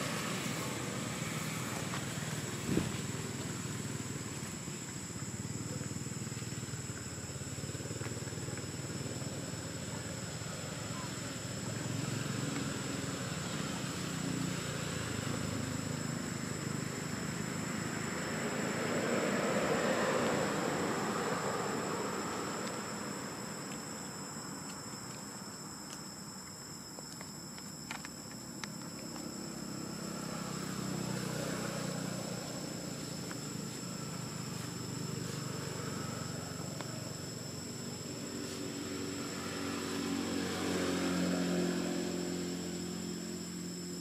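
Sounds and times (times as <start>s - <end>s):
low rumble of distant traffic: 0.0s - 44.0s
steady hiss: 0.0s - 44.0s.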